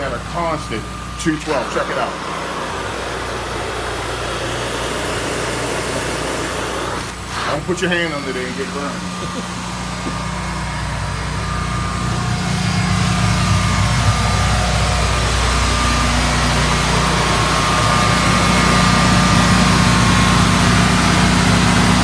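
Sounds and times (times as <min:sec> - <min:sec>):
machine drone with high whine: 0:00.0 - 0:22.0.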